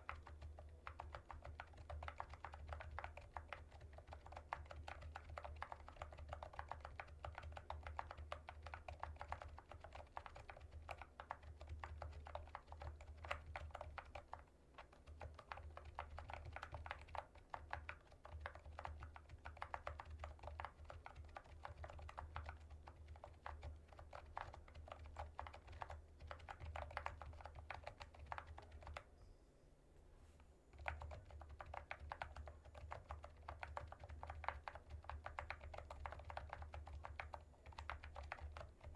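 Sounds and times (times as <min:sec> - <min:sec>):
fast typing on soft keyboard: 0:00.0 - 0:29.2, 0:30.7 - 0:38.9.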